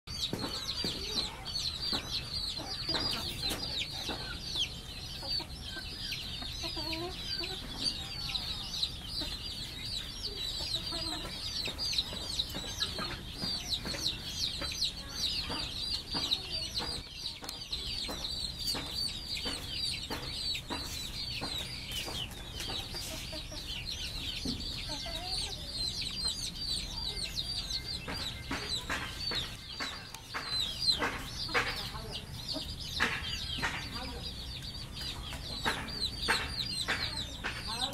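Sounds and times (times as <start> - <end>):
chickens clucking: 0.1 - 37.9
high-pitched chirping: 0.1 - 37.9.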